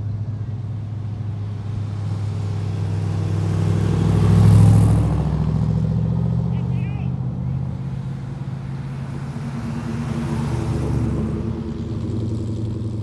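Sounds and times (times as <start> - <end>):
car engines driving slowly: 0.0 - 13.0.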